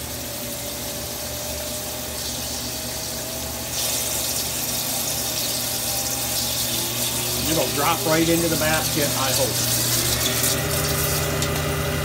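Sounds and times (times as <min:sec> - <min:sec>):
coolant pouring and splashing: 0:00.0 - 0:12.0
faint steady machine whine: 0:00.0 - 0:12.0
lathe tool cutting hiss: 0:00.8 - 0:11.7.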